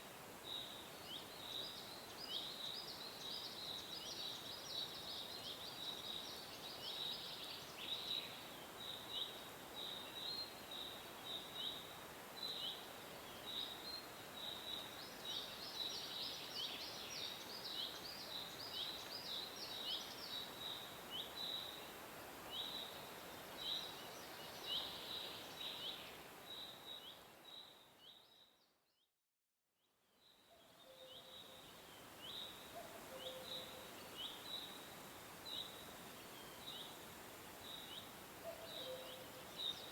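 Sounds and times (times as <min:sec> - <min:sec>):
steady outdoor hiss: 0:00.0 - 0:28.6, 0:29.9 - 0:39.9.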